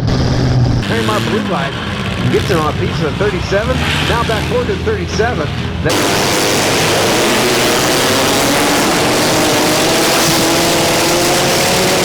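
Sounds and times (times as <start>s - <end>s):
car engines running hard: 0.0s - 12.0s.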